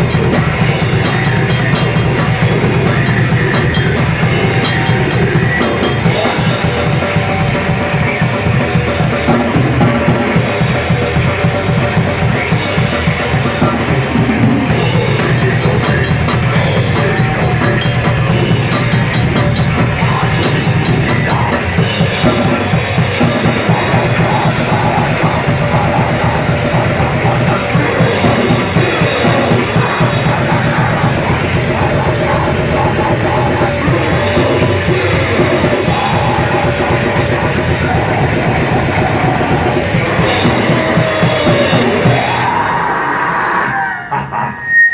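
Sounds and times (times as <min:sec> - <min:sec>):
drum kit: 0:00.0 - 0:44.4
loud rock music: 0:00.0 - 0:44.9.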